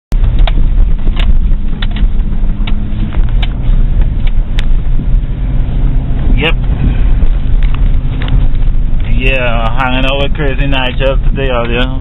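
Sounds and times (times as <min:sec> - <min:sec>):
truck engine rumbling: 0:00.1 - 0:12.0.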